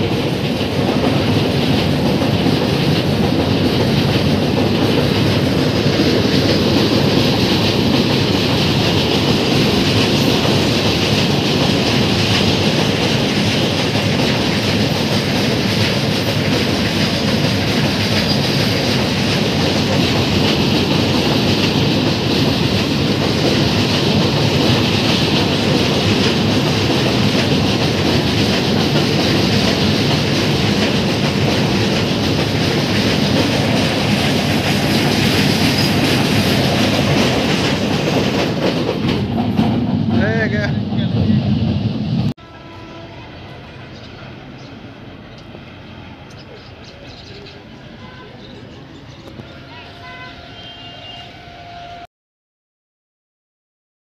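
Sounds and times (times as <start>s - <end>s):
train wagons rolling over bridge: 0.0s - 51.2s.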